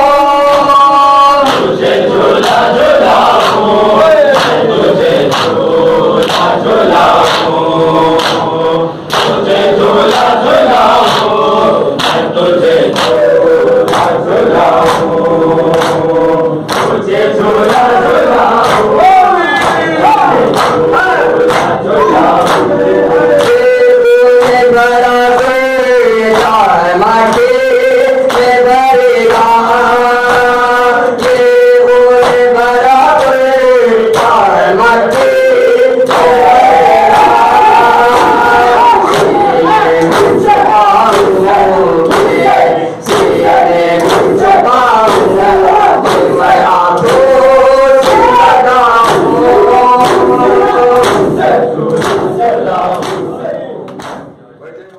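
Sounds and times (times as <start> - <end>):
men singing in unison: 0.0 - 54.2
men chanting a lament: 0.0 - 54.9.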